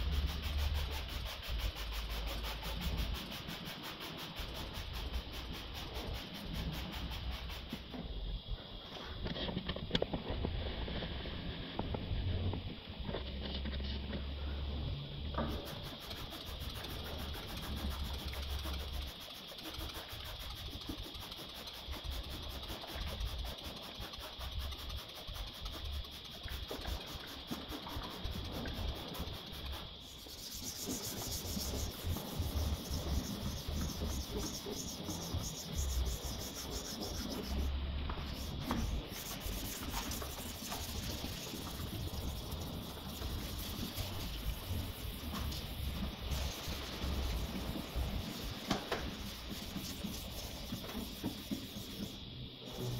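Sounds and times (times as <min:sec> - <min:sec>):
wet sanding pad rubbing: 0:00.0 - 0:07.9, 0:15.5 - 0:52.9.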